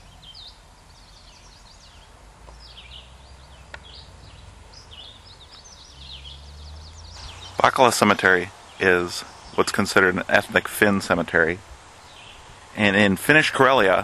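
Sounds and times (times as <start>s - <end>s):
birds chirping and singing: 0.0s - 14.0s
low steady rumble: 0.0s - 14.0s.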